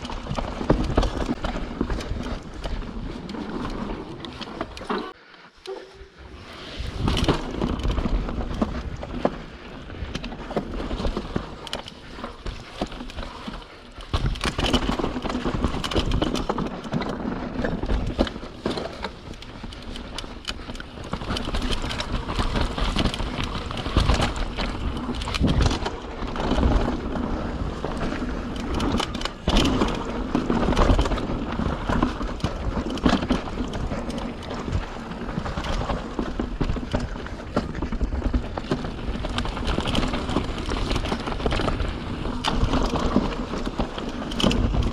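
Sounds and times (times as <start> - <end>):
bike rattles and knocks: 0.0 - 44.9
bike tyres over dirt and rock: 0.0 - 44.9.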